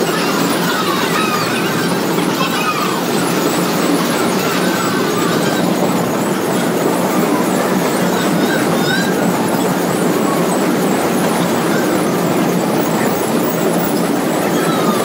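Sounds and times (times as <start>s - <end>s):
carousel rumbling: 0.0s - 15.0s
faint high squeals: 0.0s - 15.0s.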